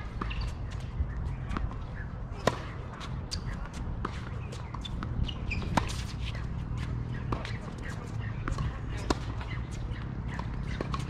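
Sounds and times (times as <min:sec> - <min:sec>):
racquets striking tennis ball: 0:00.0 - 0:11.0
tennis ball bouncing: 0:00.0 - 0:11.0.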